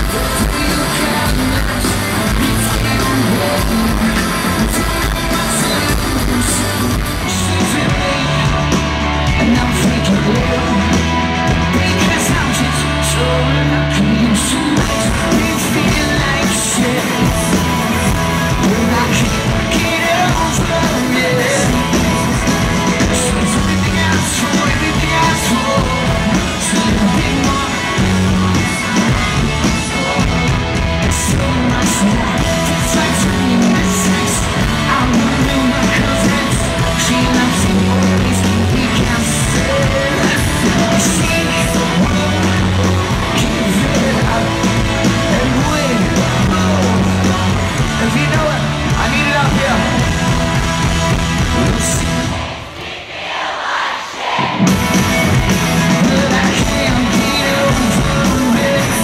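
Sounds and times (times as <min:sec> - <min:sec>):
man singing into microphone: 0:00.0 - 0:50.2, 0:55.8 - 0:59.0
live rock band playing: 0:00.0 - 0:52.6, 0:54.3 - 0:59.0.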